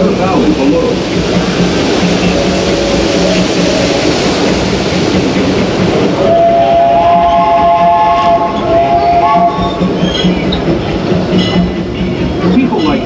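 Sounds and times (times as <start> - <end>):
chord of high steady tones: 0.0 - 13.0
train clattering along track: 0.0 - 13.0.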